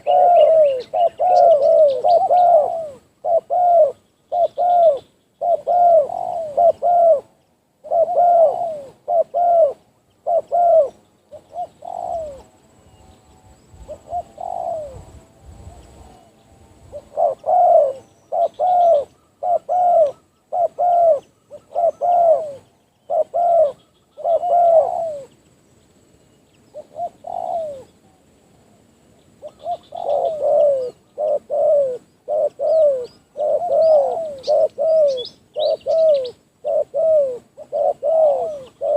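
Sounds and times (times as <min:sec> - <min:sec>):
dove cooing: 0:00.0 - 0:12.7, 0:13.7 - 0:25.4, 0:26.7 - 0:38.9
small birds chirping: 0:00.0 - 0:38.9.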